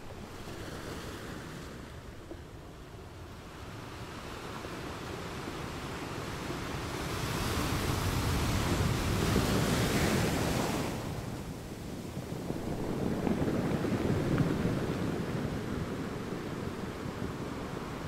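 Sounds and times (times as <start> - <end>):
ocean waves washing onto shore: 0.0 - 18.0.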